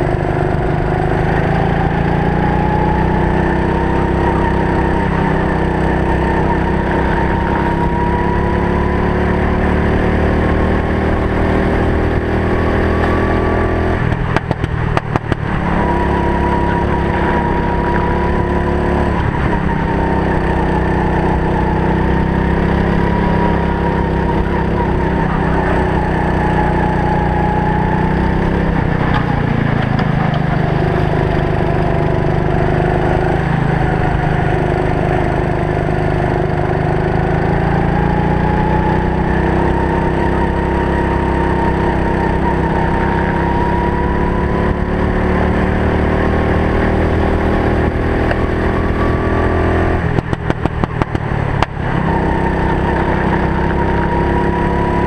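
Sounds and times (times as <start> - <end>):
racing kart engine: 0.0 - 55.0.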